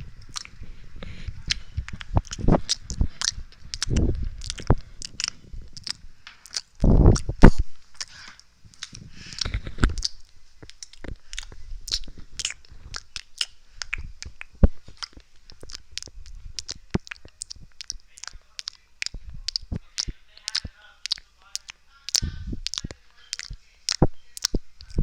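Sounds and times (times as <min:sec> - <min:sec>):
wet mouth clicks and smacks: 0:00.0 - 0:25.0.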